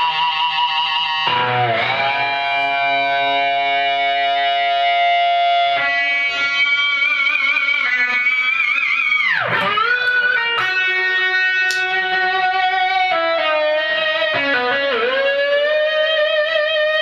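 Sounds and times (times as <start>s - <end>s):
distorted electric guitar sustained notes: 0.0s - 17.0s.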